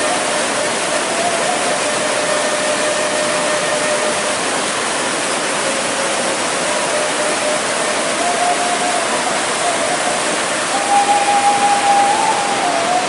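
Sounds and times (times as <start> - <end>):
water rushing over weir: 0.0 - 13.0.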